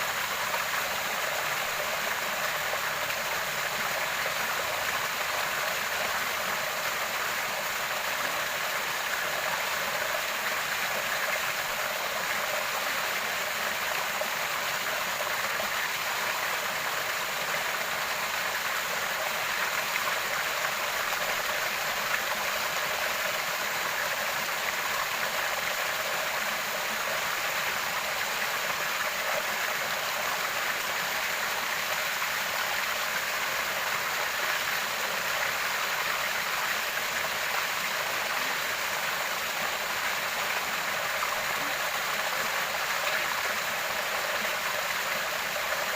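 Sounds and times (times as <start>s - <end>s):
water flowing and splashing: 0.0s - 45.9s.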